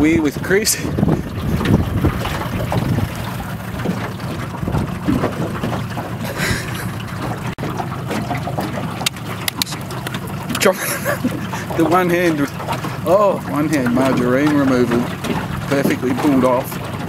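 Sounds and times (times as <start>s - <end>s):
boat water noise: 0.0s - 17.0s
wind buffeting microphone: 0.0s - 17.0s.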